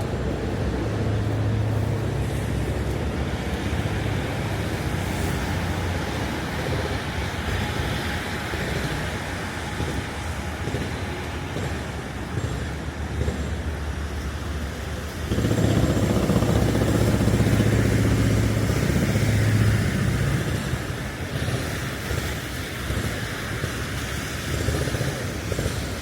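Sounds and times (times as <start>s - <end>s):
hiss of wet road: 0.0s - 26.0s
vehicle engines running low: 0.0s - 26.0s.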